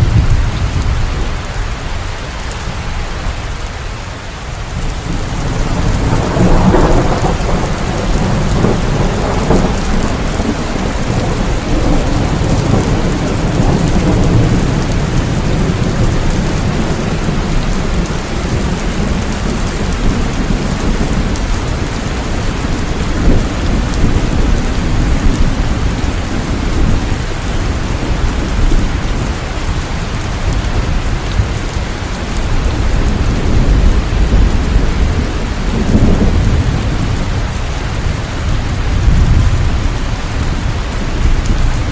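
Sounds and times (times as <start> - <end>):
thunder rumbling: 0.0 - 3.6, 4.6 - 41.9
heavy rain: 0.0 - 41.9.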